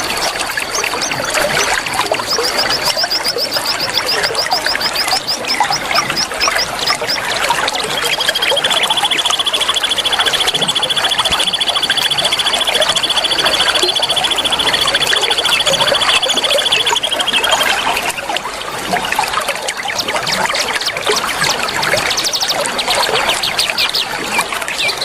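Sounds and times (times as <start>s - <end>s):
trickling water: 0.0s - 25.0s
bird trill: 0.2s - 18.3s, 19.8s - 24.2s
bird chirps: 0.5s - 18.4s, 19.8s - 25.0s.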